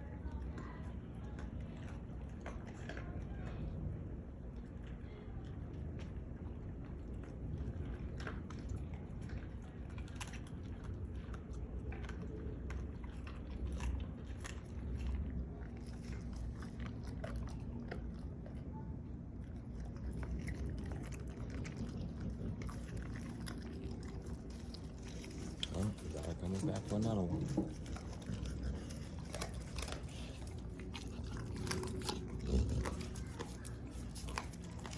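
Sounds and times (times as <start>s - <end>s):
dogs chewing bones: 0.0s - 34.9s.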